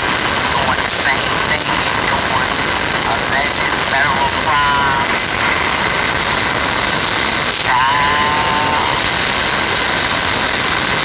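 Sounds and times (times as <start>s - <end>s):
rushing hiss: 0.0s - 11.0s.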